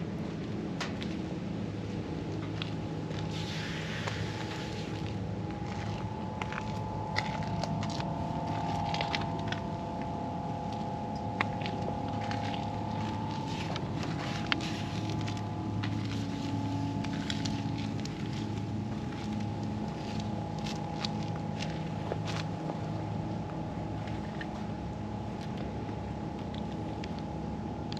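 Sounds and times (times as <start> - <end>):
constant high tone: 2.0 - 27.9
car engine idling: 3.4 - 27.2.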